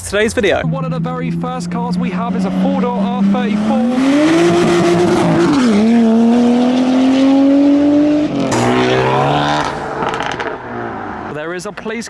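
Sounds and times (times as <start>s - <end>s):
car engine accelerating hard: 0.0s - 11.4s.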